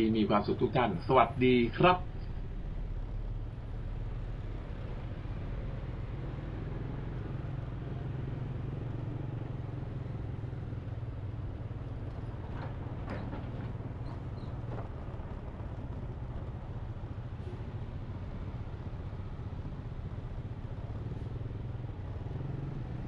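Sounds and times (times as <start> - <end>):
motorcycle and bus engines: 0.0 - 23.0
road noise: 0.0 - 23.0.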